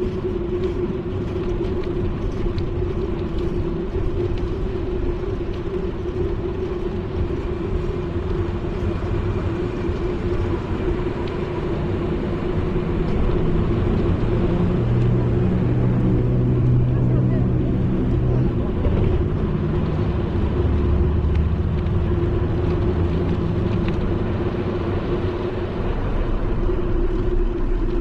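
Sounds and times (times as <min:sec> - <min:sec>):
bicycle tyres on asphalt: 0:00.0 - 0:28.0
constant hum: 0:00.0 - 0:28.0
lower hum: 0:00.0 - 0:28.0
wind on camera microphone: 0:00.0 - 0:28.0.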